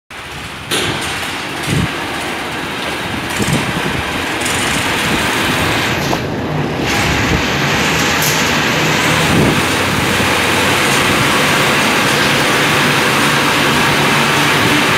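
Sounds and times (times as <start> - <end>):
cotton machine running: 0.1 - 14.9.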